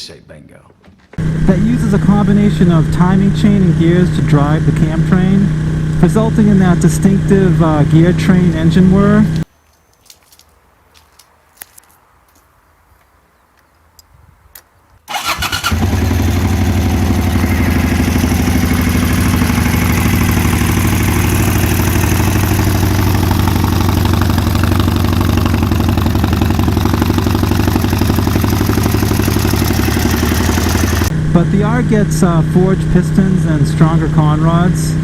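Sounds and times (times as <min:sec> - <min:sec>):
motorcycle engine starting and idling: 0:01.1 - 0:09.5, 0:15.1 - 0:35.0.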